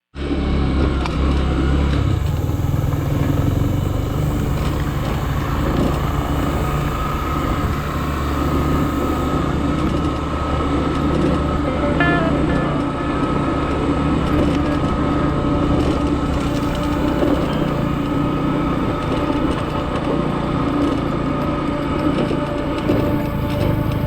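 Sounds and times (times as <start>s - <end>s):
vehicle engine running: 0.0s - 24.0s
faint high whine: 0.2s - 24.0s.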